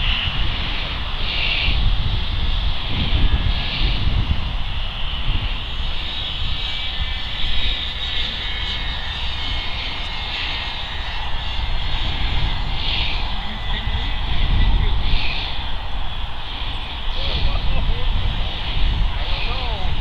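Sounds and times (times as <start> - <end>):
model jet high whine: 0.0 - 20.0
wind rumbling on microphone: 0.0 - 20.0.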